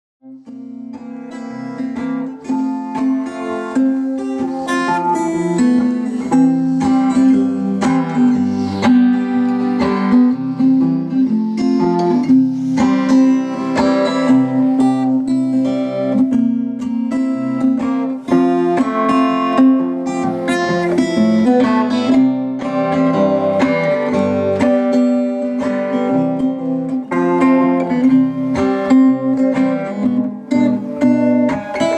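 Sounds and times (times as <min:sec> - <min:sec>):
acoustic guitar plucked notes: 0:00.2 - 0:31.9.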